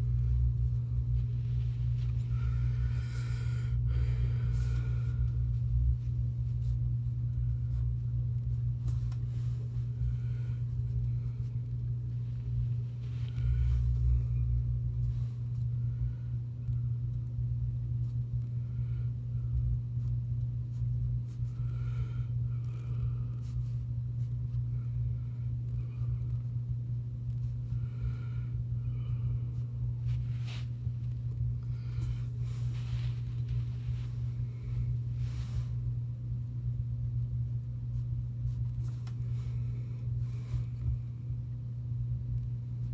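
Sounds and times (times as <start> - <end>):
low hum with uneven rumble: 0.0 - 42.9.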